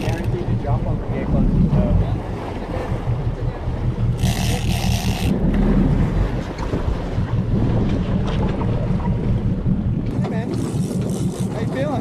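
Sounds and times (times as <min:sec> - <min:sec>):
boat engine running: 0:00.0 - 0:12.0
wind and water rushing: 0:00.0 - 0:12.0.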